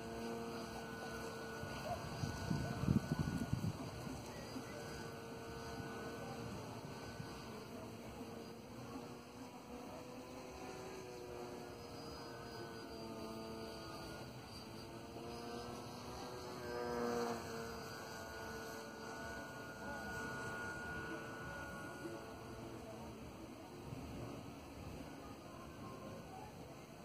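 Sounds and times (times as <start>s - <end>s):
model plane propeller droning: 0.0s - 27.0s.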